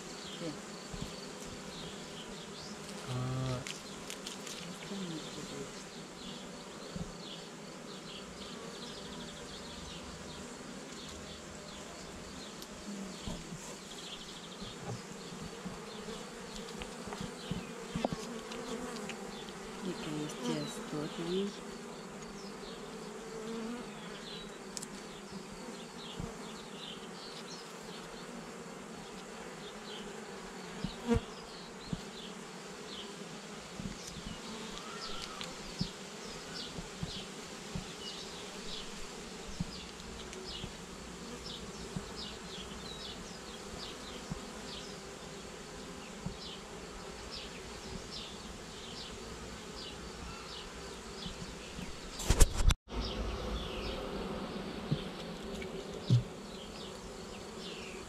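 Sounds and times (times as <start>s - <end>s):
honey bees buzzing: 0.0s - 58.0s.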